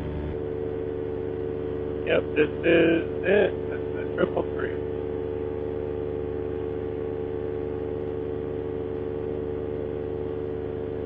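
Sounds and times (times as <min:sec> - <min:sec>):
paramotor engine drone: 0:00.0 - 0:11.0.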